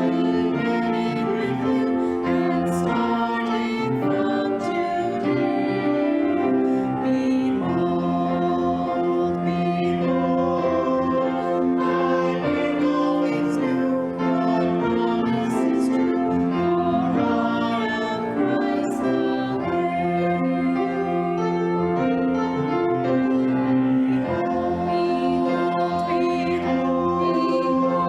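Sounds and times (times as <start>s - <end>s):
slow church music: 0.0s - 28.0s.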